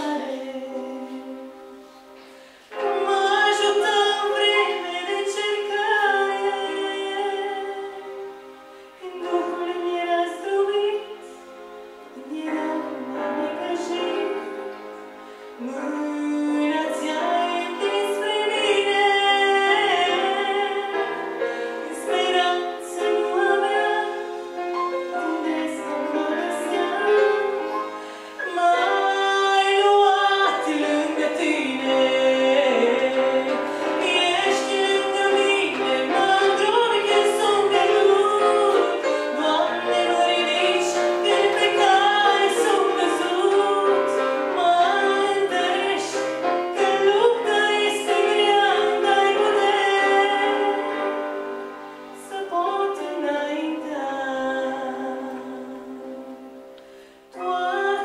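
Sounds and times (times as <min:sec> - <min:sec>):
woman singing into microphone: 0:00.0 - 0:01.9, 0:02.8 - 0:08.2, 0:09.0 - 0:11.4, 0:12.2 - 0:14.8, 0:15.6 - 0:27.8, 0:28.4 - 0:51.3, 0:52.1 - 0:56.5, 0:57.3 - 0:58.0
musical accompaniment: 0:00.0 - 0:58.0.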